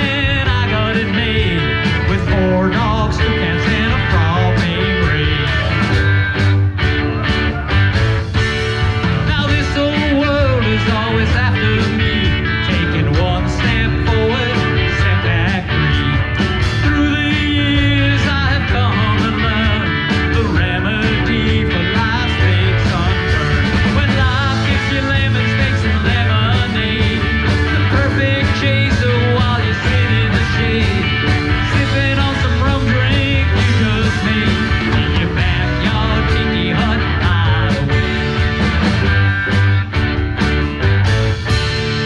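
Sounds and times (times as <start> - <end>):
electric guitars: 0.0 - 42.0
steady drum beat: 0.0 - 42.0.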